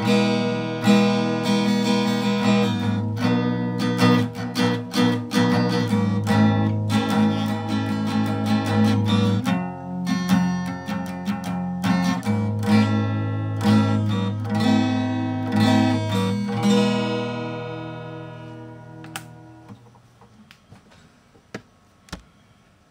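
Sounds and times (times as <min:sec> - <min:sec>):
acoustic guitar strumming chords: 0:00.0 - 0:19.8.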